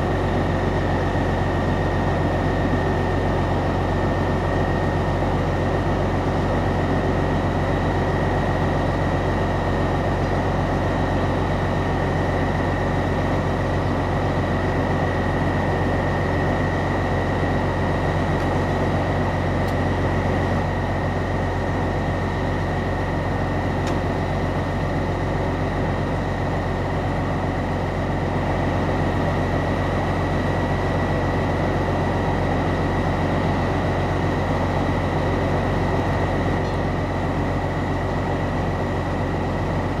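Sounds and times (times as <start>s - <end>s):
diesel train engine idling: 0.0s - 40.0s.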